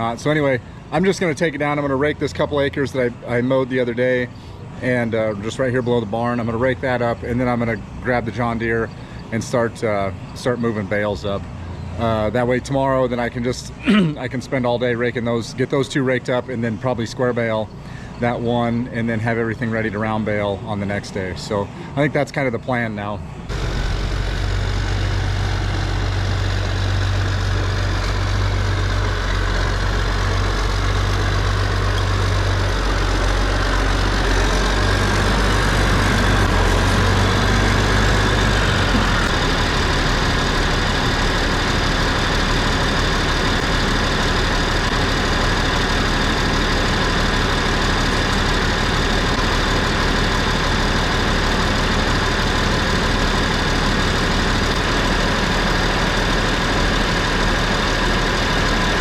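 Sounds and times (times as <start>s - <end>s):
tractor engine running: 0.0s - 22.2s, 22.8s - 59.0s.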